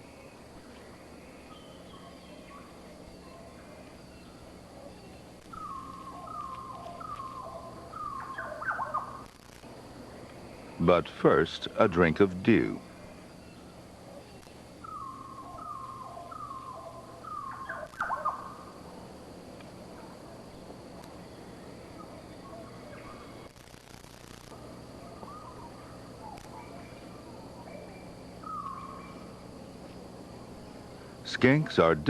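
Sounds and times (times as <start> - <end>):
wild bird calls: 0.0 - 9.3, 12.8 - 19.1, 19.9 - 23.5, 24.9 - 32.0.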